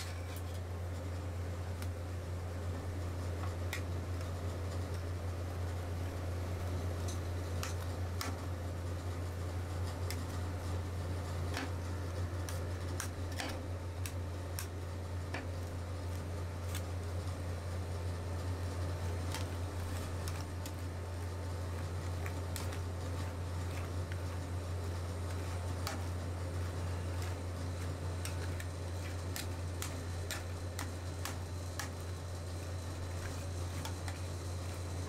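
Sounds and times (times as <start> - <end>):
cold plate machine humming: 0.0 - 35.0.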